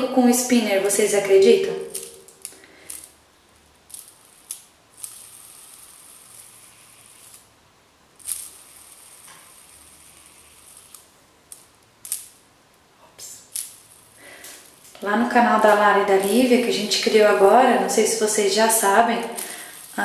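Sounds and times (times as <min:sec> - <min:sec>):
fidget spinner whirring: 0:00.3 - 0:12.4, 0:13.4 - 0:20.0.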